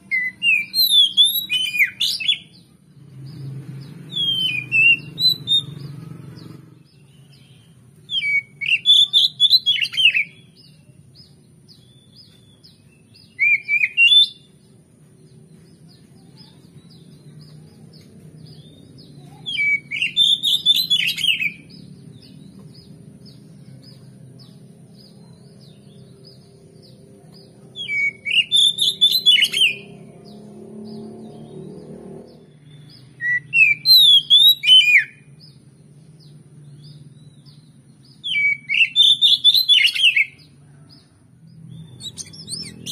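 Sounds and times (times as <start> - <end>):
bird singing whistled notes: 0.0 - 40.6, 41.6 - 42.9.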